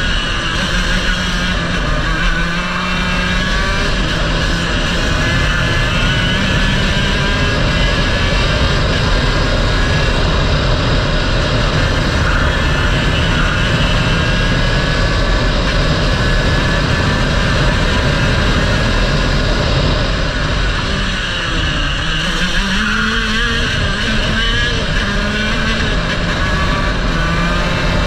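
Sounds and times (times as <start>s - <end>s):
go-kart engine running: 0.0s - 28.0s
wind noise on microphone: 0.0s - 28.0s.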